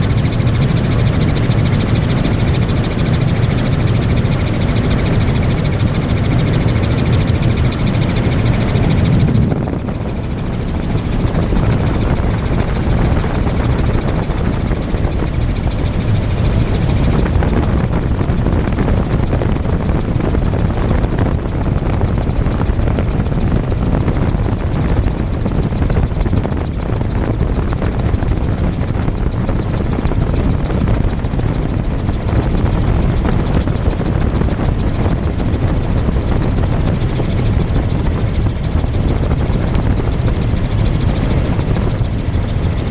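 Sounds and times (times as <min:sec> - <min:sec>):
helicopter rotor drone in cabin: 0:00.0 - 0:42.9.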